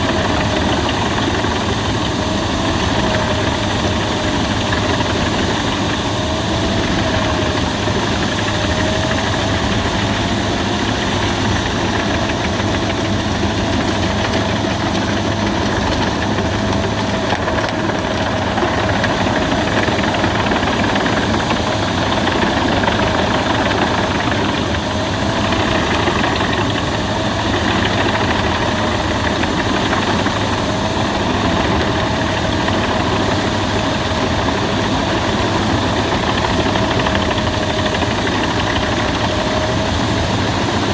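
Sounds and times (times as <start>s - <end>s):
wood chipper running: 0.0s - 40.9s.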